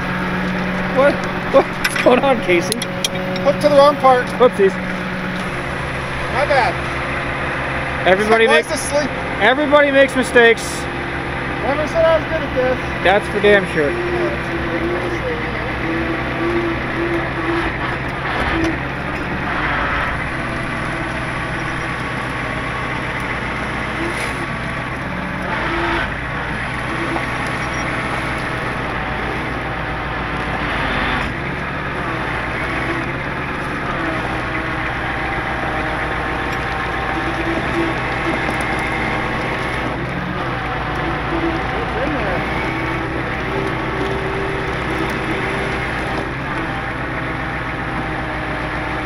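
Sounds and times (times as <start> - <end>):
truck engine running: 0.0 - 49.0
winch humming: 0.0 - 49.0.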